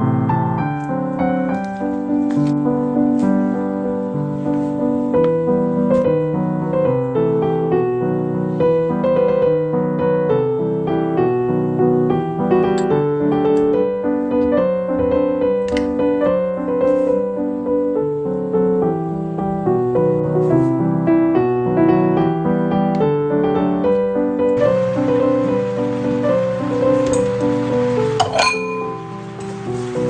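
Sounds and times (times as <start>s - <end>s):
piano melody: 0.0s - 30.0s.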